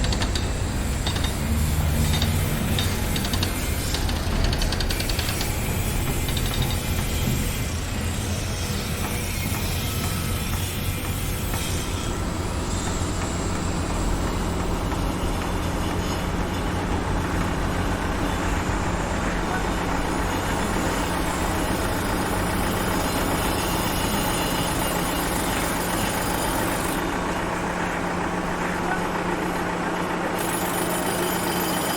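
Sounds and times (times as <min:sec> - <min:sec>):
construction machinery noise: 0:00.0 - 0:31.9
heavy vehicle engine running: 0:00.0 - 0:31.9.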